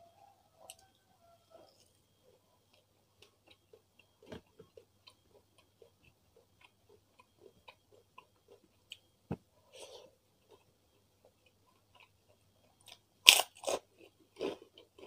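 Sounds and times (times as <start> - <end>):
faint chewing: 0.5 - 15.0.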